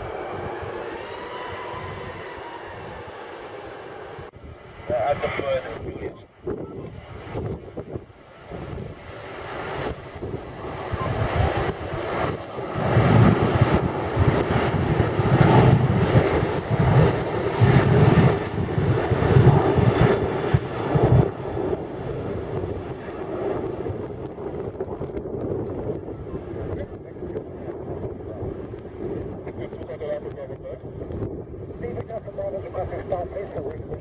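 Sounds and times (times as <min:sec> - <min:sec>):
wind rumble on microphone: 0:00.0 - 0:03.2, 0:04.1 - 0:34.0
jet engines roaring: 0:00.0 - 0:34.0.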